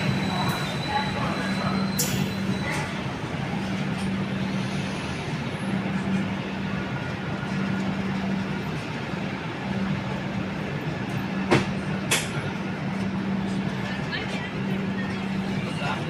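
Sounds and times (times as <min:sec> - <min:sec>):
railway rumble: 0:00.0 - 0:16.0.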